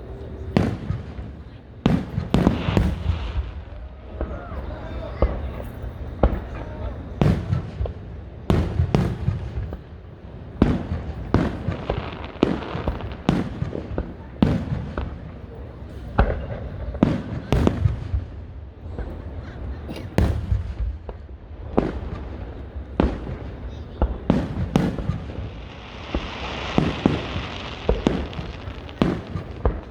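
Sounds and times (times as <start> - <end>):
fireworks bursting: 0.0 - 29.9.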